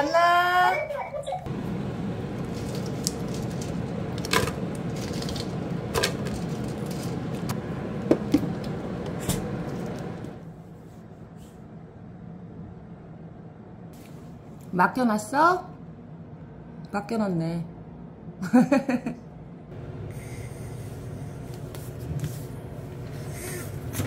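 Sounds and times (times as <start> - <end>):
steady low whir: 0.8 - 24.0.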